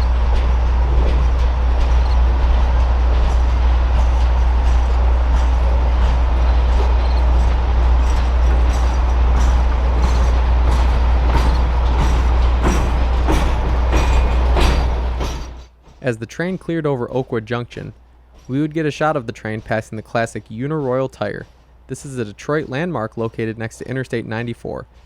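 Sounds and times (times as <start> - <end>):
train wheels rumbling on rails: 0.0 - 25.0
wheel clicks over rail joints: 0.0 - 25.0.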